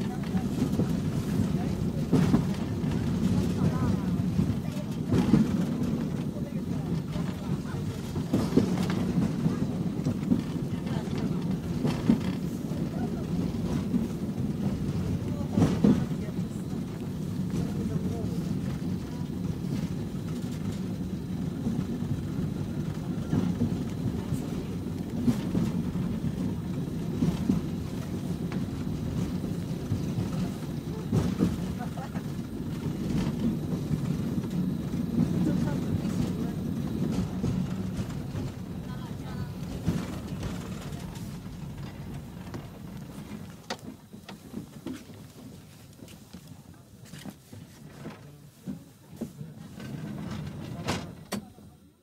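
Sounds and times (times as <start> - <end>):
tram rumbling on rails: 0.0 - 52.0.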